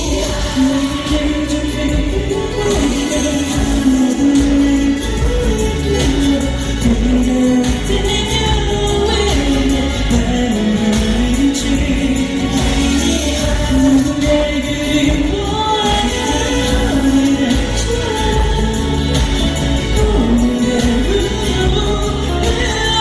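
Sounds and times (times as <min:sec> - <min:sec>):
backing music: 0:00.0 - 0:23.0
man singing: 0:00.0 - 0:23.0.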